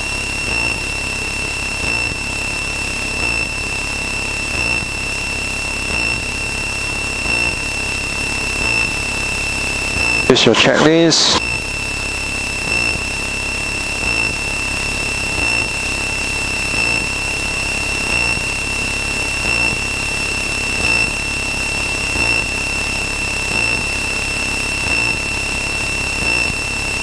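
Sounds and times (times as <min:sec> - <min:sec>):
aircraft engine and propeller: 0:00.0 - 0:27.0
high-pitched whine: 0:00.0 - 0:27.0.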